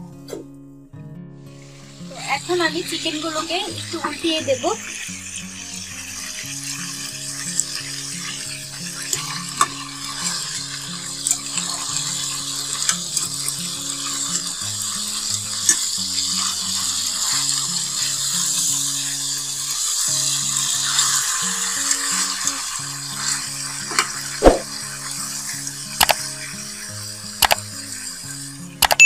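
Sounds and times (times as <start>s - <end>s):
chicken sizzling in oil: 1.5s - 28.8s.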